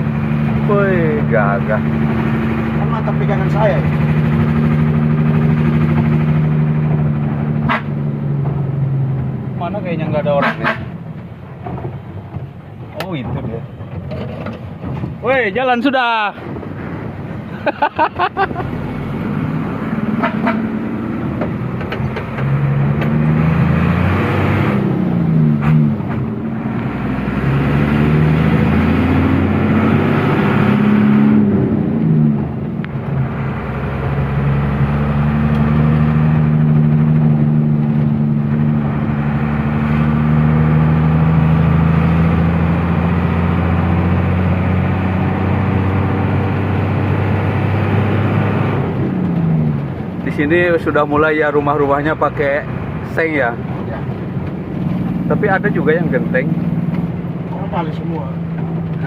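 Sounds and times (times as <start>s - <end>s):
truck engine accelerating: 0.0s - 59.0s.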